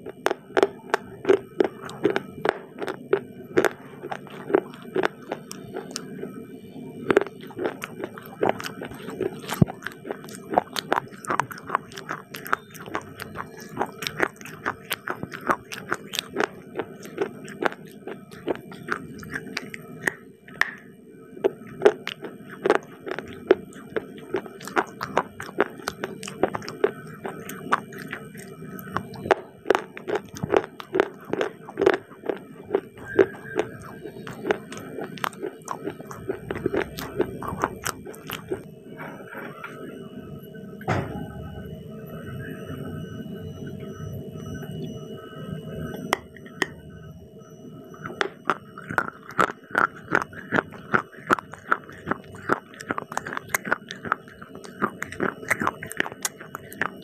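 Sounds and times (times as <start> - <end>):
crunchy biting and chewing: 0.0 - 6.4, 7.0 - 38.7, 48.0 - 57.0.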